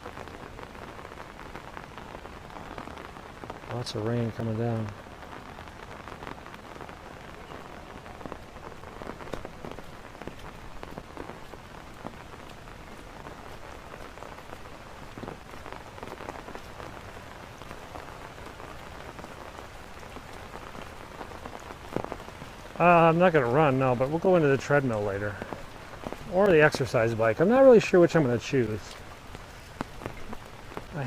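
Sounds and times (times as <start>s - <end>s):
heavy rain falling: 0.0s - 31.0s
sharp raindrop ticks: 0.0s - 31.0s.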